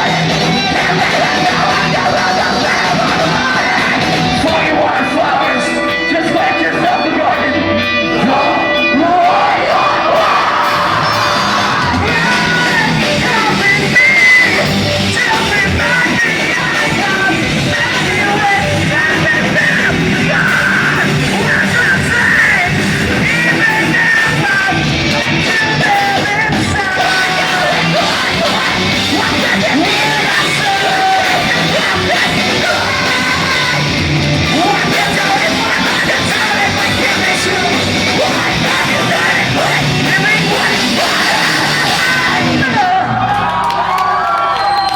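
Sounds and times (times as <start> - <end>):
person singing: 0.0 - 43.1
distorted guitars: 0.0 - 43.6
bass guitar: 0.0 - 43.7
drums: 0.0 - 44.9.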